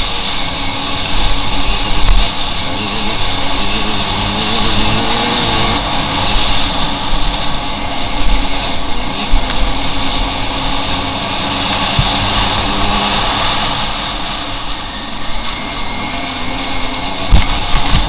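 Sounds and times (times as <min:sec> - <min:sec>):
dirt bike engine revving: 0:00.0 - 0:14.6
steady rushing noise: 0:00.0 - 0:18.0.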